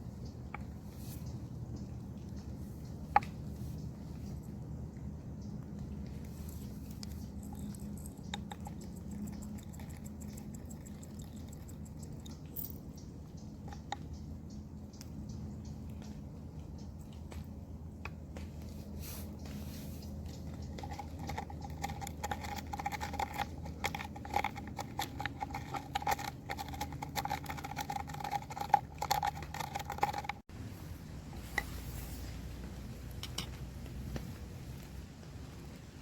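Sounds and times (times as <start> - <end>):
small irregular clicks: 0.0 - 18.8, 20.1 - 30.5
low background hum: 0.0 - 36.0.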